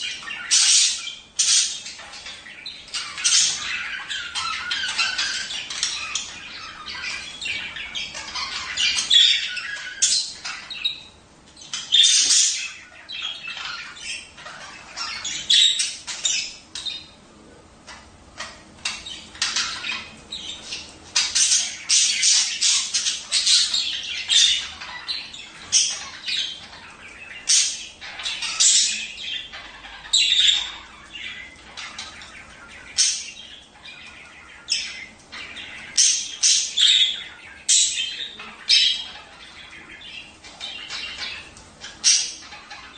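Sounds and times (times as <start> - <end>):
budgerigars chattering and squawking: 0.0 - 42.9.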